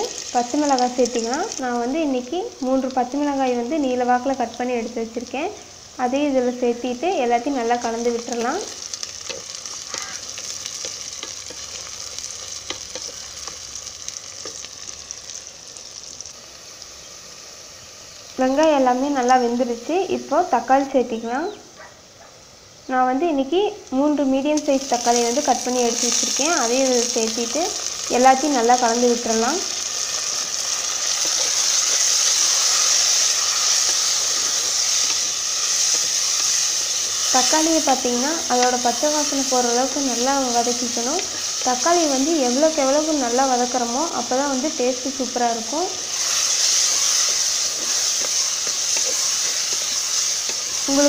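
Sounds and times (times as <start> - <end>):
onions sizzling in hot oil: 0.0 - 21.6, 22.3 - 51.0.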